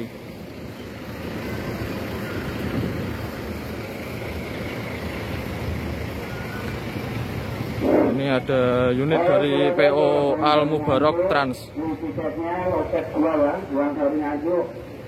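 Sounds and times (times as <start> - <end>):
diesel bus engines running: 0.0 - 15.0.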